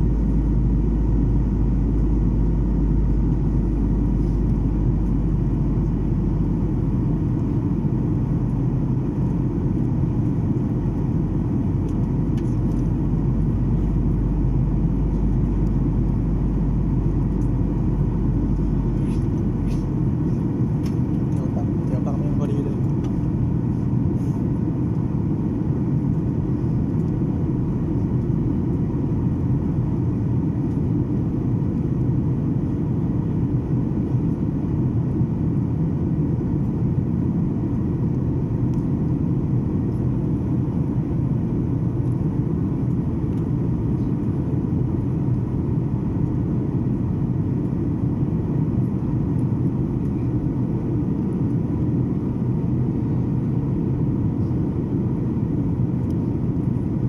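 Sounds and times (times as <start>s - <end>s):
faint steady whine: 0.0s - 57.0s
jet engine drone in cabin: 0.0s - 57.0s.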